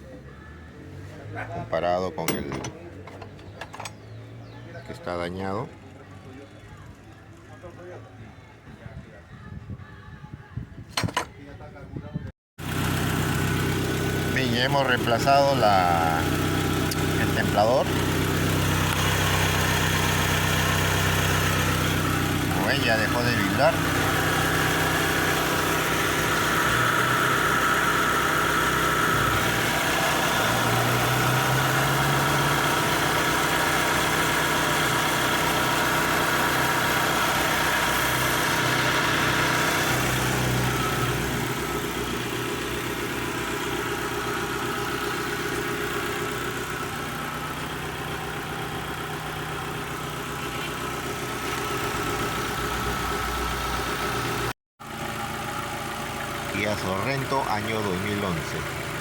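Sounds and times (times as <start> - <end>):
car engine idling: 0.0 - 8.2, 12.6 - 59.0.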